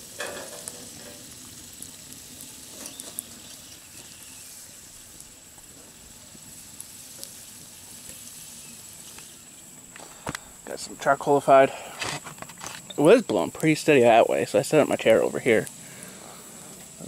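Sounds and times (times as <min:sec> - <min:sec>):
pies sizzling in oil: 0:00.0 - 0:17.0.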